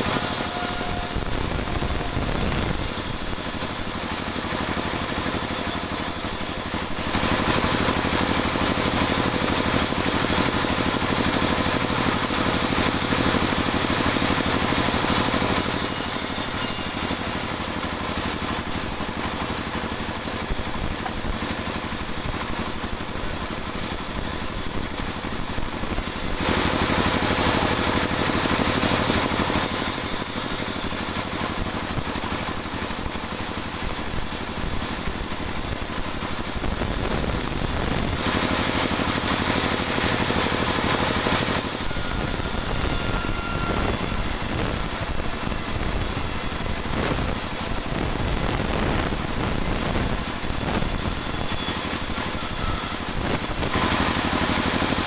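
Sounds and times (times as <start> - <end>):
saw blade ripping wood: 0.0 - 13.5, 14.1 - 55.0
sawmill machine hum: 0.0 - 55.0.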